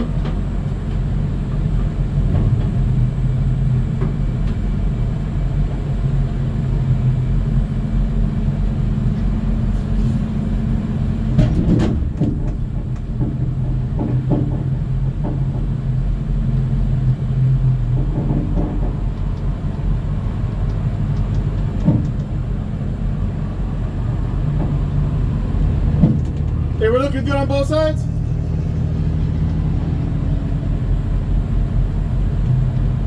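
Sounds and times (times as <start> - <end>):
tow truck engine running: 0.0 - 33.0.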